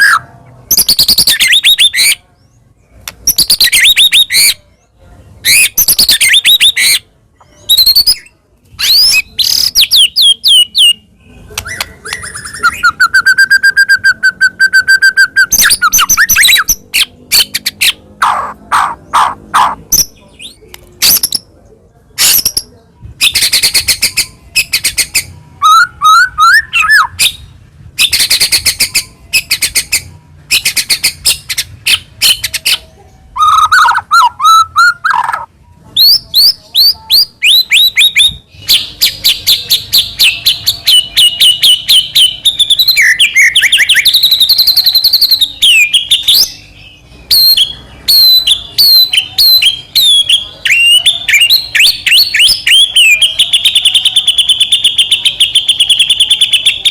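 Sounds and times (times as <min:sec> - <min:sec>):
songbird singing varied phrases: 0:00.0 - 0:56.9.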